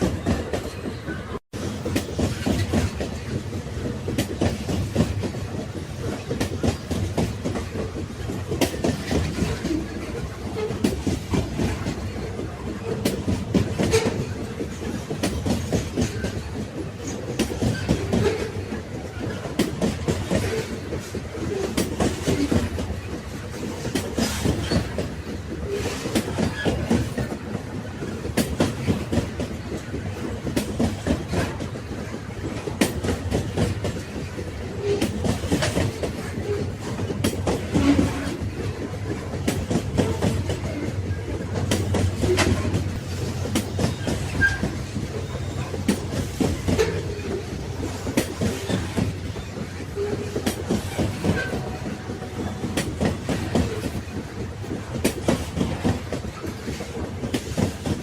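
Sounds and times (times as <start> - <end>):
railway wagons rumbling on rails: 0.0 - 58.0
wheels clacking over track: 1.8 - 58.0.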